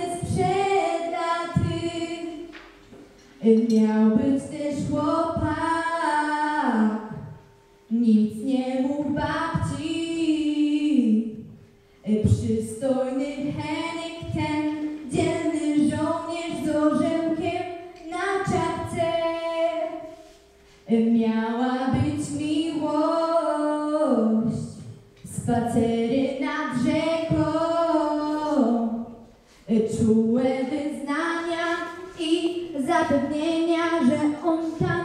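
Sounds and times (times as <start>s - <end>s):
woman singing: 0.0s - 2.5s, 3.4s - 7.3s, 7.9s - 11.4s, 12.0s - 20.2s, 20.9s - 29.1s, 29.7s - 35.0s.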